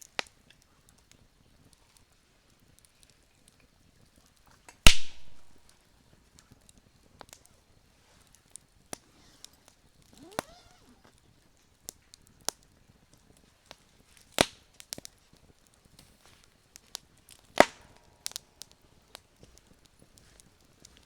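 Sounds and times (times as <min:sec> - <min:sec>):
burning wood snapping and popping: 0:00.0 - 0:21.0.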